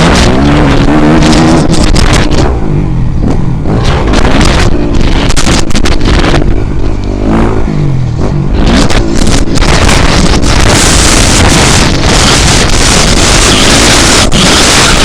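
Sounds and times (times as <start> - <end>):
motocross bike engine revving: 0.0 - 15.0
wind noise on microphone: 0.0 - 15.0.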